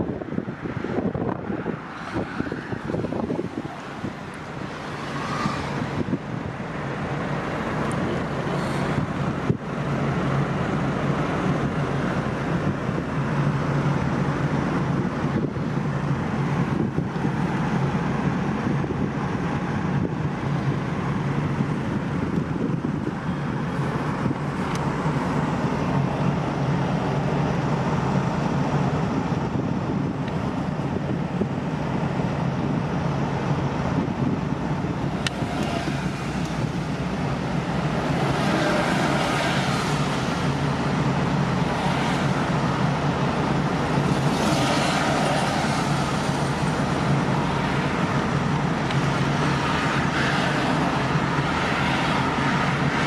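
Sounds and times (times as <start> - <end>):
steady low rumble: 0.0 - 53.0
wind buffeting microphone: 0.0 - 53.0.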